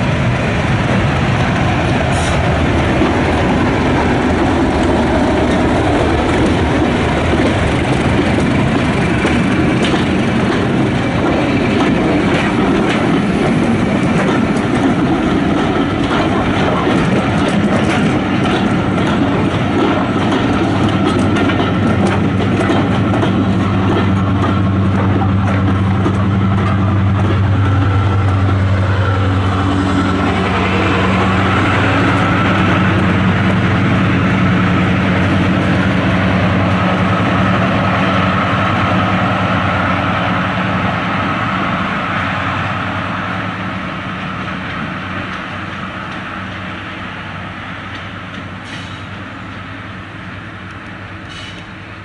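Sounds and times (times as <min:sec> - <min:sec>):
diesel locomotive engine passing: 0:00.0 - 0:52.0.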